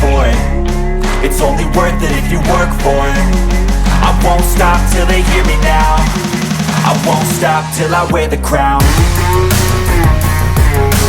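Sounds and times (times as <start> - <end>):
heavy drums: 0.0 - 11.0
instrumental hip-hop rock music: 0.0 - 11.0.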